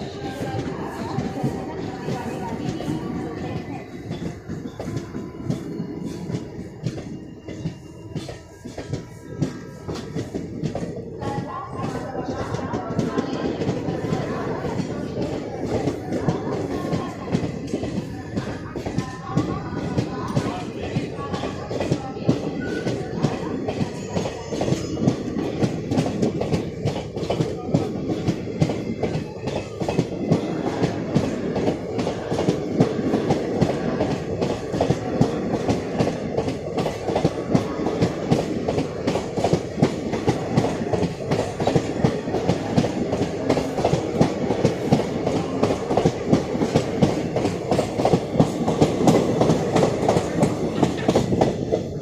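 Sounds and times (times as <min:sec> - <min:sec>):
train wheels clattering over rail joints: 0:00.0 - 0:52.0.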